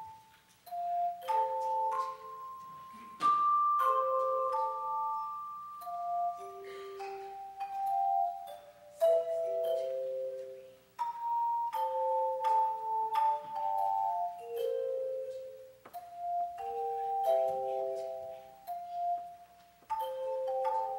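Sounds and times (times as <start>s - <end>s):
handbells ringing a slow tune: 0.0s - 20.9s.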